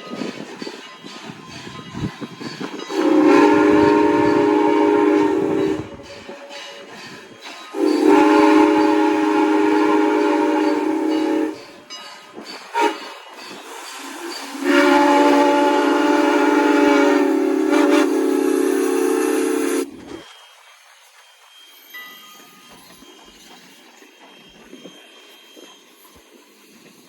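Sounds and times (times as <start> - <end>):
steam locomotive chime whistle: 0.0 - 27.0.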